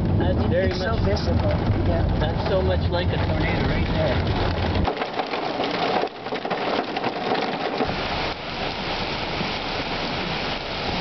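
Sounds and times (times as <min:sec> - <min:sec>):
heavy rain on glass: 0:00.0 - 0:11.0.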